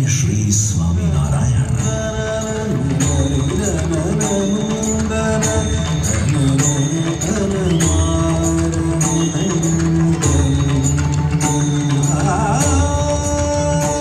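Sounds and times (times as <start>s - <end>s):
music with held notes and beat: 1.2s - 14.0s.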